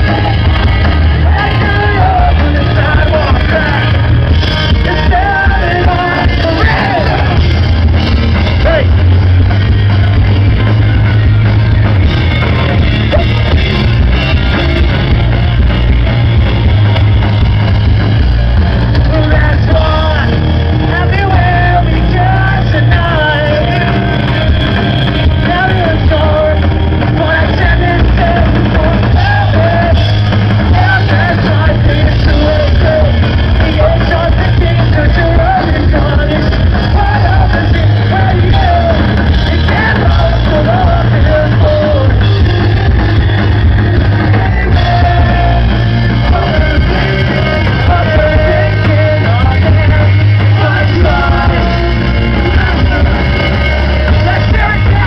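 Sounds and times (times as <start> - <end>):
person singing lead vocal: 0.0 - 16.4, 18.5 - 55.0
rock band playing live: 0.0 - 55.0.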